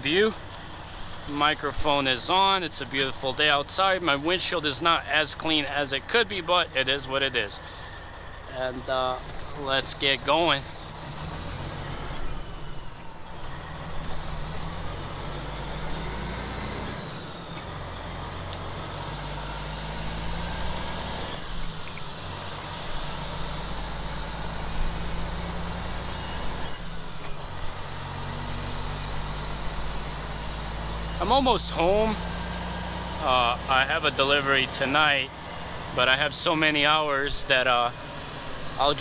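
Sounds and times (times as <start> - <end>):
truck diesel engine accelerating: 0.0 - 39.0.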